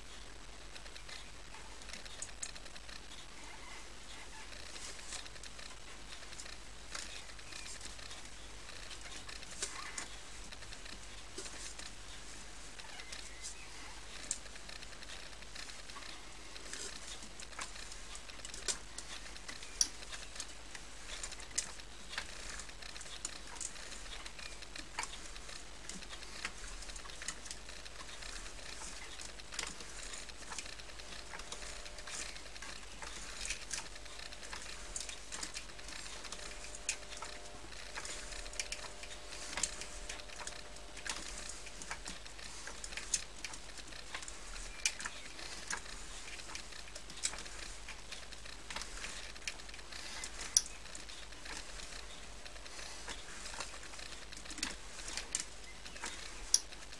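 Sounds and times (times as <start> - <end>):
faint whine: 0.0 - 56.9
light ticks and clicks: 0.0 - 56.9.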